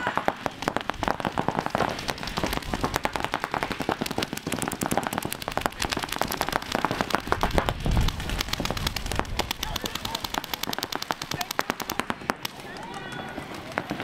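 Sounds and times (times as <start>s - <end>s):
paintball guns popping: 0.0s - 14.0s.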